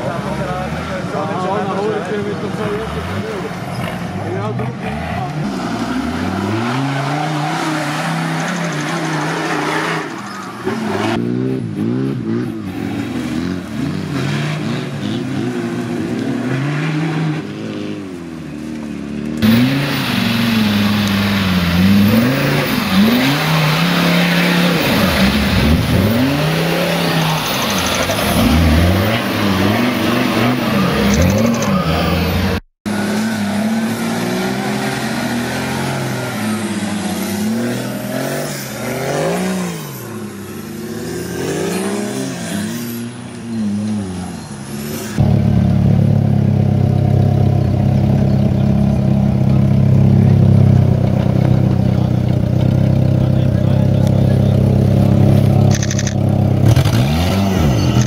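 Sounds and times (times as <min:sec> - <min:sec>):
off-road engines revving hard: 0:00.0 - 0:58.0.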